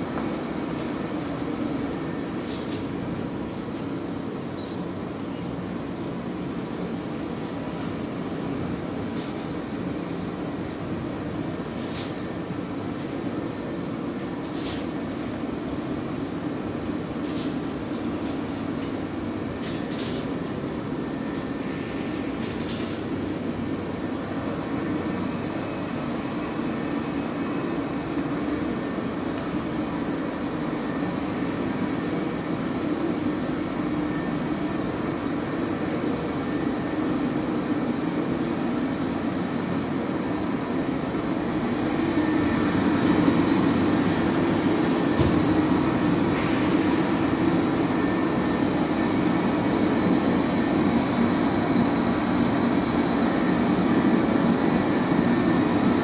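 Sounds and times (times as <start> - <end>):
refrigeration machinery drone: 0.0 - 56.0.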